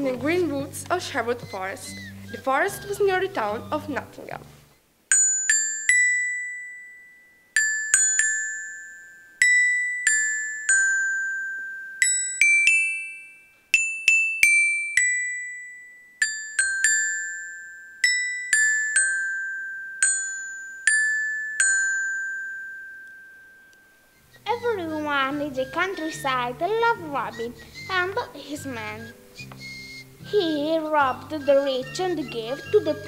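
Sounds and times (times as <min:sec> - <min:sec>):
glockenspiel melody: 0:00.0 - 0:04.3, 0:05.1 - 0:33.0.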